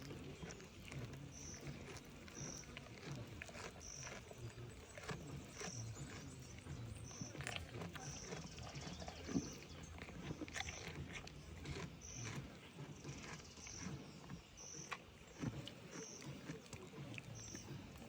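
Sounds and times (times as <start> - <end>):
goats chewing and crunching: 0.0 - 18.0.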